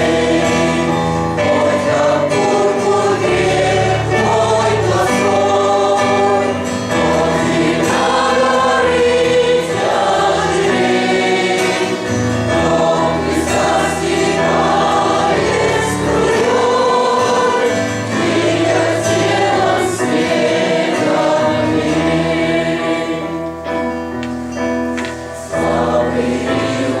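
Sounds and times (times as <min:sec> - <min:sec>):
choir singing a hymn: 0:00.0 - 0:24.0, 0:25.3 - 0:27.0.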